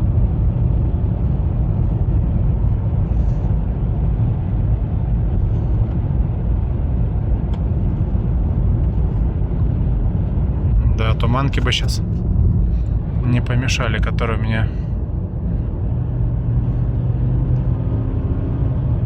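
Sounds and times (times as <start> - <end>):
car cabin road noise: 0.0 - 19.0
tyre and engine rumble: 0.0 - 19.0.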